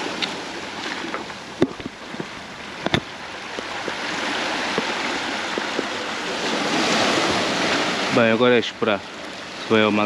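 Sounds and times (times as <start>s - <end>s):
sea surf washing up beach: 0.0s - 10.0s.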